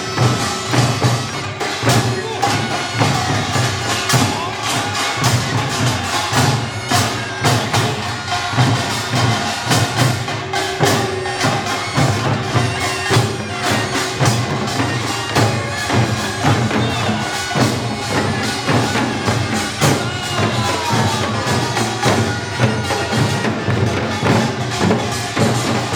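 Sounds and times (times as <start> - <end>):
drums and gongs beating: 0.0 - 25.9
reedy shawm melody: 0.0 - 25.9.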